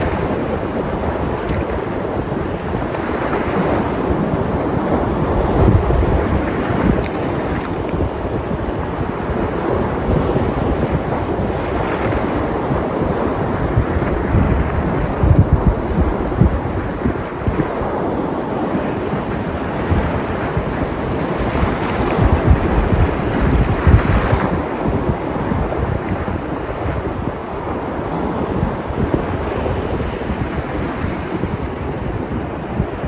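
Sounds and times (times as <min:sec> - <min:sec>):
waves breaking on shore: 0:00.0 - 0:33.0
wind buffeting microphone: 0:00.0 - 0:33.0.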